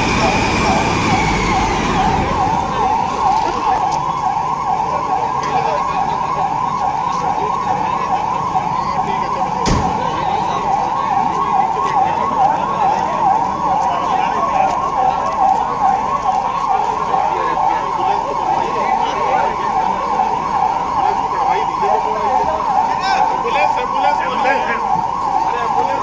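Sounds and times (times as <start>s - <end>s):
electronic siren yelping: 0.0s - 26.0s.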